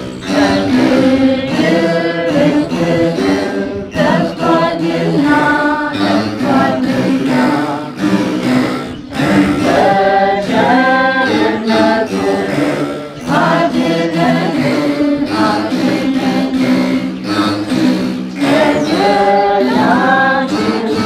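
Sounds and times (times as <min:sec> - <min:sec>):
women singing a hymn: 0:00.0 - 0:21.0.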